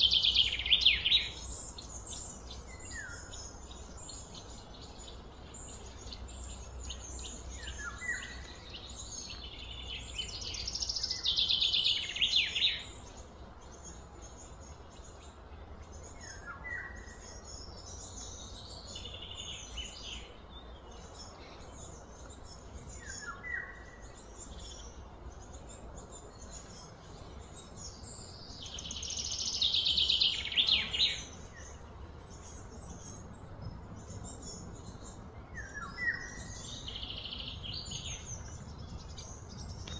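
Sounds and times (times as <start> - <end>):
birds and insects calling: 0.0 - 39.9.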